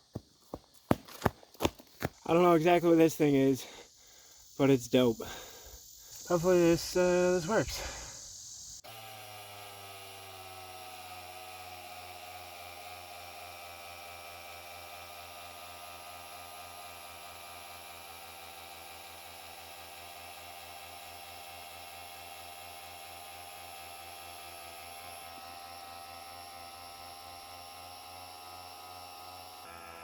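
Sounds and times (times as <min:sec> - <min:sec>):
electric air pump running: 0:03.4 - 0:30.0.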